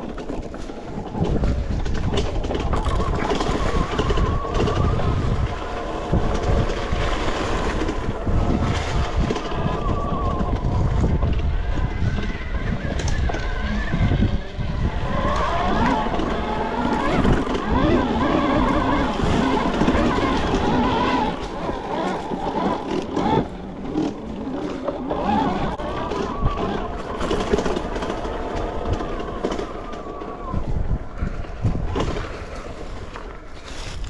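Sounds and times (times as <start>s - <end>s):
electric motor whine: 0.0s - 32.1s
wind buffeting microphone: 0.0s - 34.0s.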